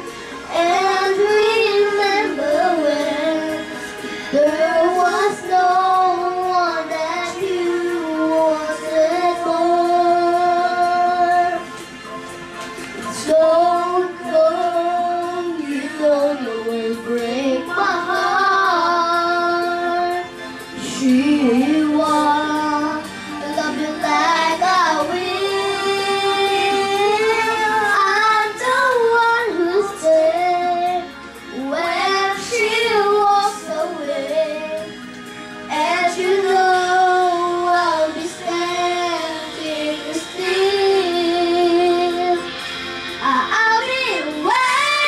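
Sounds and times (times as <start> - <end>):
backing music: 0.0 - 45.0
girl singing into a microphone: 0.5 - 3.6, 4.3 - 11.6, 13.1 - 34.9, 35.7 - 42.5, 43.2 - 45.0.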